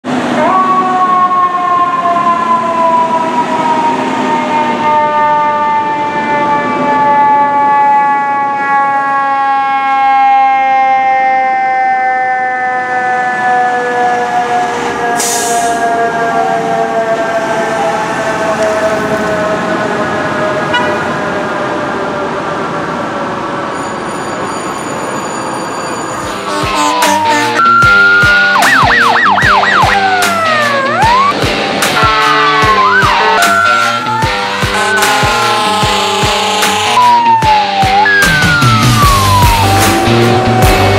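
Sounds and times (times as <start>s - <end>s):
city traffic noise: 0.0s - 40.9s
mechanical fire engine siren: 0.1s - 22.9s, 23.8s - 40.9s.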